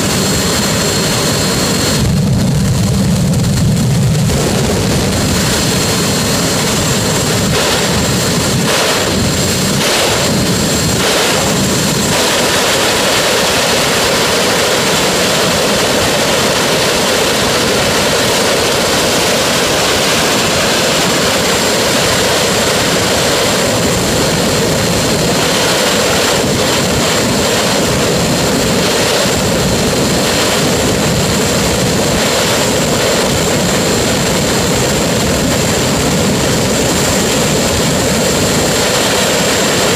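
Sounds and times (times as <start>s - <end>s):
jet engine roaring: 0.0s - 39.9s.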